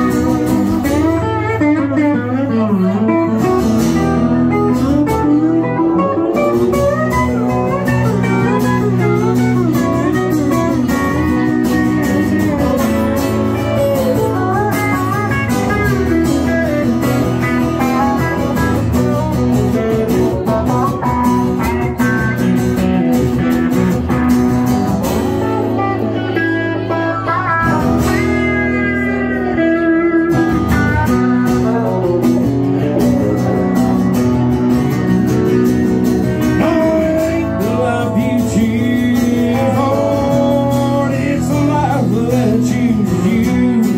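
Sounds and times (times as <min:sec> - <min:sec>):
acoustic guitar: 0:00.0 - 0:43.9.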